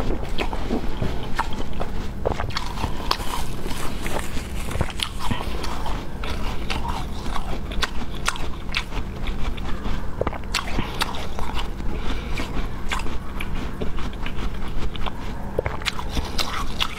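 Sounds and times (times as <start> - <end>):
mouth-closed chewing: 0.0 - 16.9.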